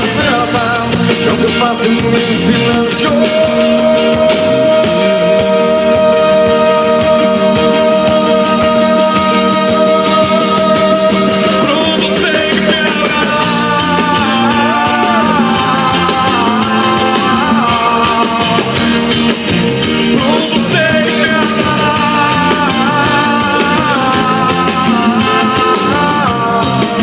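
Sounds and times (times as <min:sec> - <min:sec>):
pop-rock ballad music: 0:00.0 - 0:27.0.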